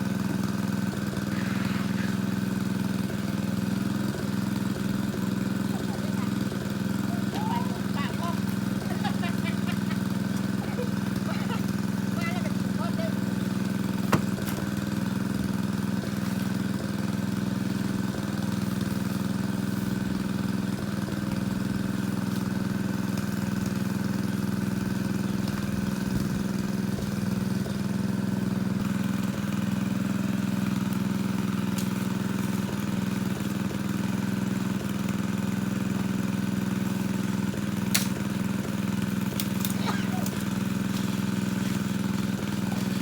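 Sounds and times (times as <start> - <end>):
water pump engine running: 0.0 - 43.0.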